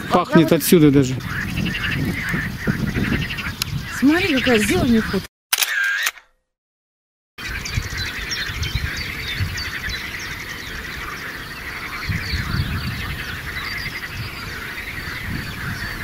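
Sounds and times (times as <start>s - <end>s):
birds singing and calling: 0.0s - 5.3s, 7.4s - 16.0s
wind rumbling on microphone: 0.0s - 5.3s, 7.4s - 16.0s.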